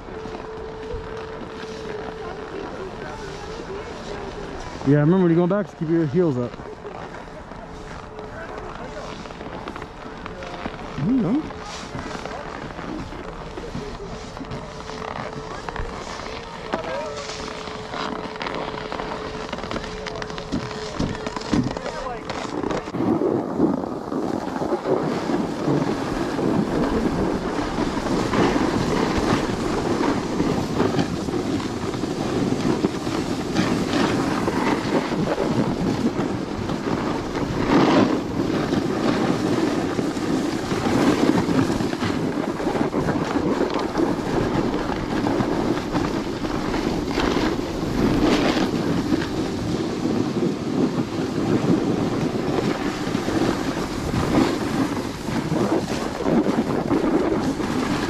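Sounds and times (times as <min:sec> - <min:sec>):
edges scraping on snow: 0:00.0 - 0:58.0
wind on microphone: 0:00.0 - 0:58.0.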